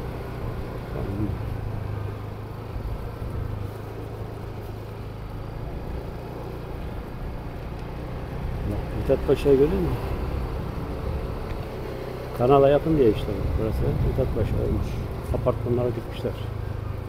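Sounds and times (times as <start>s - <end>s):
car engine hum: 0.0s - 17.0s
tyre road noise: 0.0s - 17.0s.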